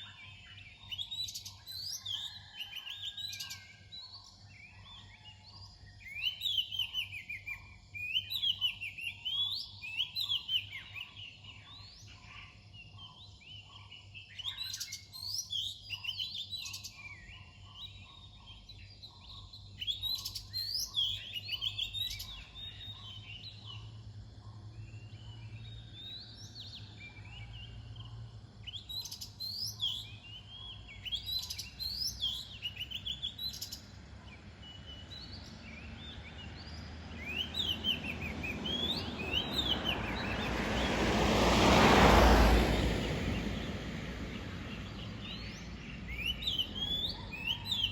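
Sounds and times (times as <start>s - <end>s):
songbird whistling song: 0.0s - 40.9s, 43.0s - 47.9s.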